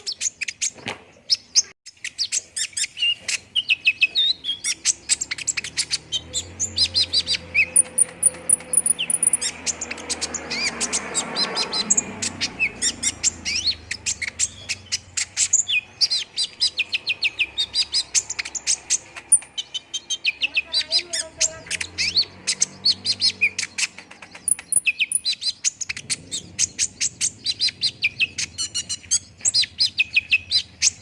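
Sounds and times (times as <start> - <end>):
sunbird singing high chirps: 0.0 - 31.0.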